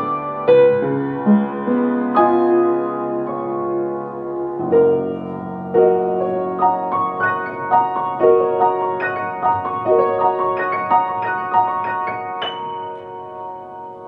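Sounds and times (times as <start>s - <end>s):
solo piano piece: 0.0s - 14.0s.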